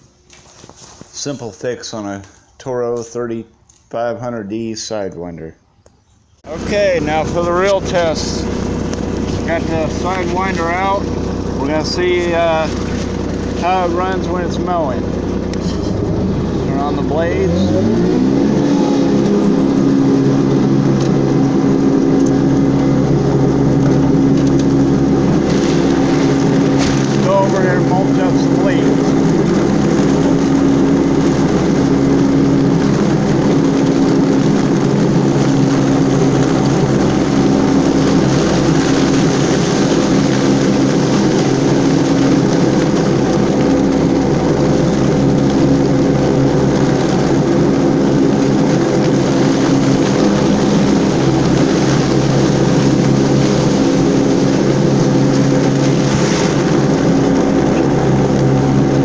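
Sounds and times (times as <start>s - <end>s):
mower diesel engine running: 6.4s - 59.0s
rush of spinning mower blades: 6.5s - 59.0s.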